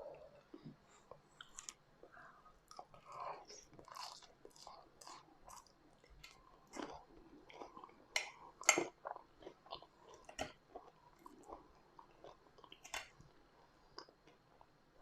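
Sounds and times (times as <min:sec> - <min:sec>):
chewing food with mouth smacks: 0:00.4 - 0:14.8.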